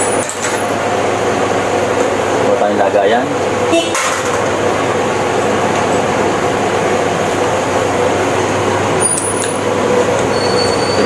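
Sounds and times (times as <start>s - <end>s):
steady machine noise: 0.0s - 11.0s.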